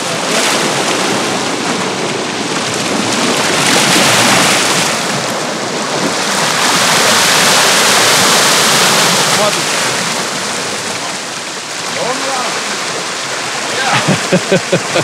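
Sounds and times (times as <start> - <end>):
sea water surging against rocks: 0.0 - 15.0.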